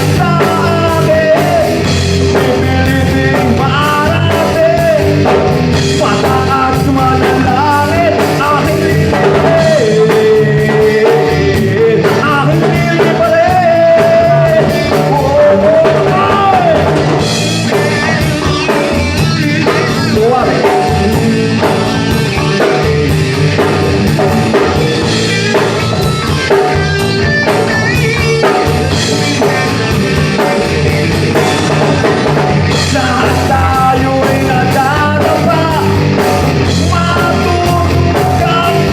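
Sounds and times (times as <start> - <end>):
bass guitar: 0.0 - 38.9
drum kit: 0.0 - 38.9
electric guitar: 0.0 - 38.9
man singing: 0.0 - 38.9.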